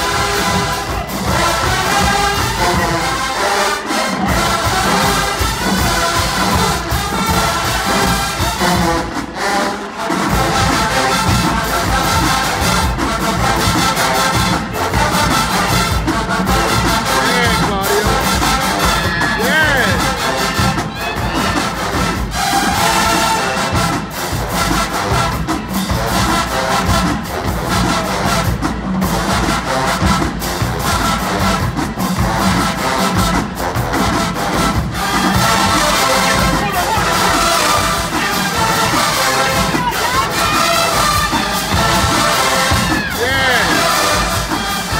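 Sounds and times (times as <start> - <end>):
bass drums and percussion: 0.0 - 3.3, 4.2 - 9.4, 10.2 - 44.9
brass section playing: 0.0 - 44.9.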